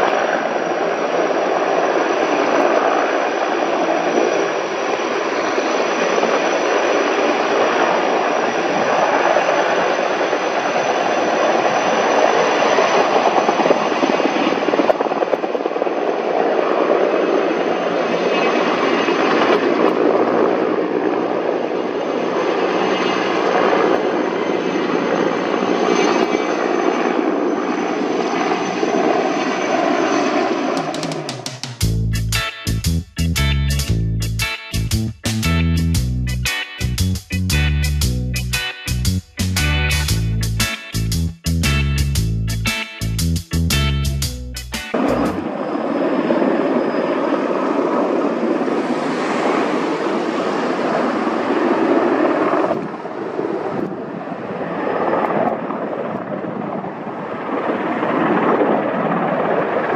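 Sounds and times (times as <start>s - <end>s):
high engine whine: 0.0s - 54.2s
helicopter rotor noise: 0.0s - 59.9s.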